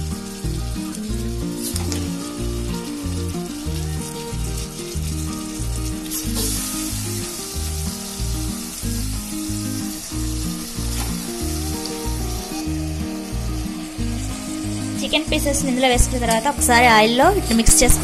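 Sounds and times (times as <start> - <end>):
background music: 0.0 - 18.0
chicken sizzling in oil: 0.0 - 18.0.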